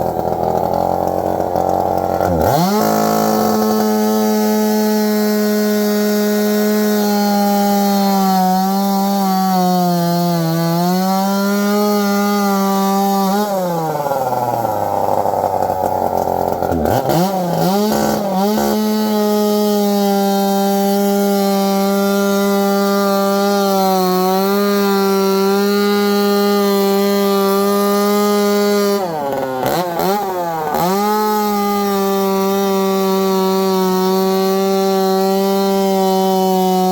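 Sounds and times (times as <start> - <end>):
chainsaw cutting metal: 0.0 - 36.9.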